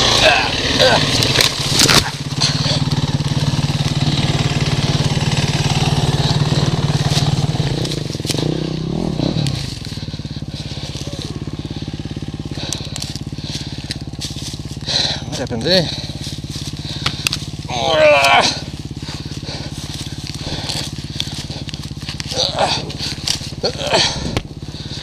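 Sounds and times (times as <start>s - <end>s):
dirt bike engine idling: 0.0s - 25.0s.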